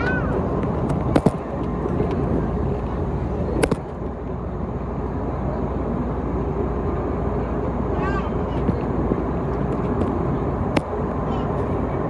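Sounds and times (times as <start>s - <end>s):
airplane cabin engine rush: 0.0s - 12.0s.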